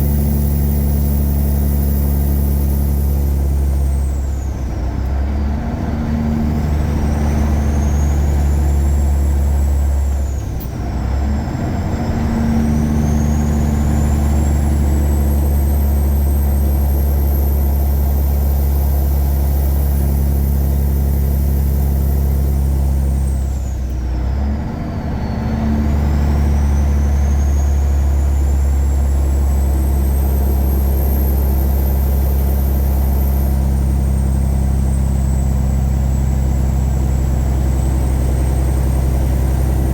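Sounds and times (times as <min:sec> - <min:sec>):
high engine whine: 0:00.0 - 0:24.6, 0:25.2 - 0:39.9
truck diesel engine under load: 0:00.0 - 0:39.9.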